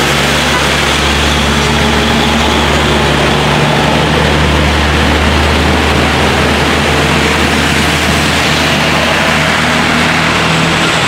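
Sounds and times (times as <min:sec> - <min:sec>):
truck engine drone: 0:00.0 - 0:11.0
tyres hissing on wet road: 0:00.0 - 0:11.0.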